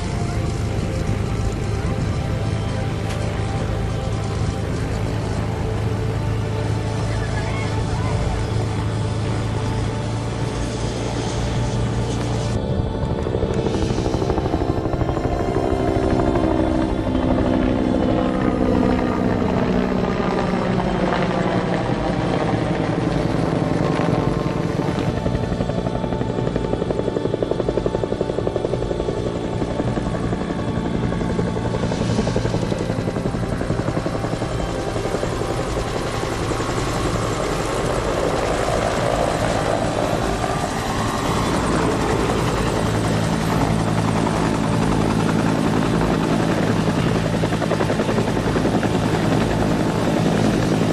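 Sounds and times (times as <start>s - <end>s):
aircraft engine pulsing: 0.0s - 50.9s.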